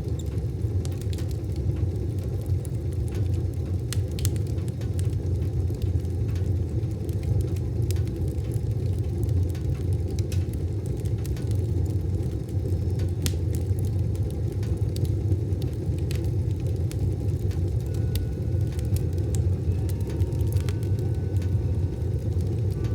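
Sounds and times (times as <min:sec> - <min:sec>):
fire crackling and popping: 0:00.0 - 0:22.9
fire rumbling in wood stove: 0:00.0 - 0:22.9.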